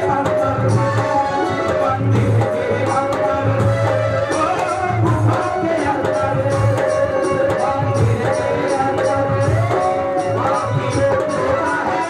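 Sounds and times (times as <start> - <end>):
hand drum beat: 0.0 - 12.0.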